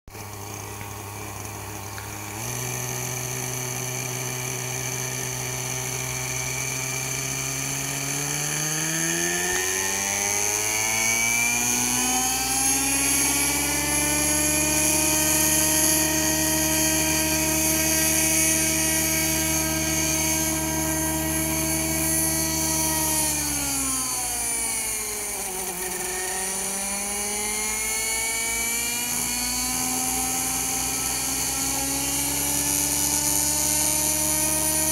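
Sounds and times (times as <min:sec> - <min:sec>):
rc helicopter engine and rotors: 0:00.1 - 0:34.9.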